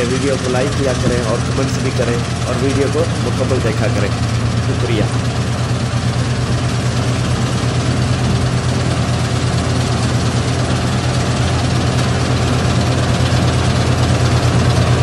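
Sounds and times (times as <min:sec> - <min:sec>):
combine harvester engine drone: 0:00.0 - 0:15.0
machinery noise: 0:00.0 - 0:15.0.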